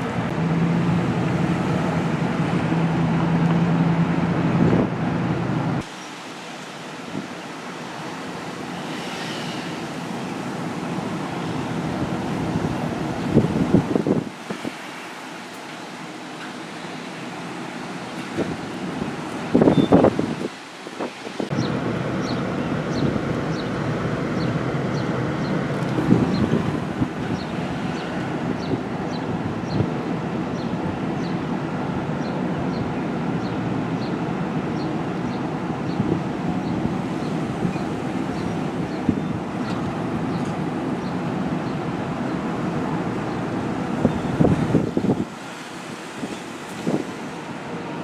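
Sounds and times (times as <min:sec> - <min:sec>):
steady rushing noise: 0:00.0 - 0:48.0.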